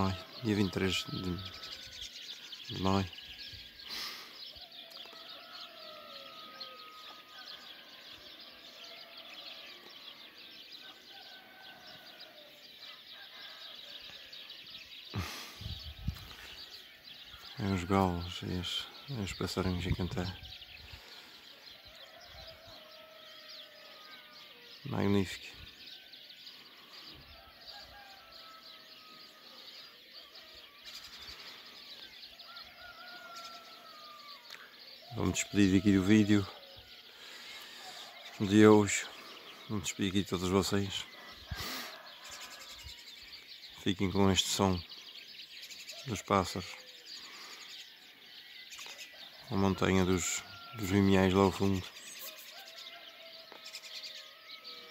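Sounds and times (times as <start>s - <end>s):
distant rooster crowing: 0.0s - 3.5s, 4.5s - 15.3s, 16.4s - 39.8s, 40.4s - 44.1s, 49.0s - 54.9s
songbirds chirping and singing: 0.0s - 54.9s.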